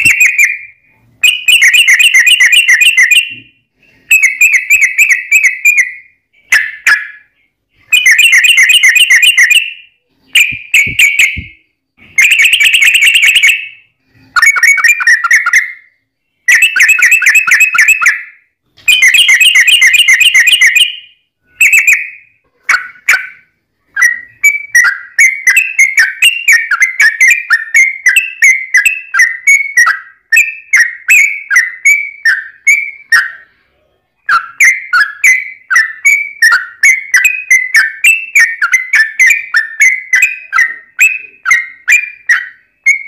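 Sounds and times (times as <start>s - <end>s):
bird chattering song: 0.0s - 33.6s, 34.2s - 43.0s.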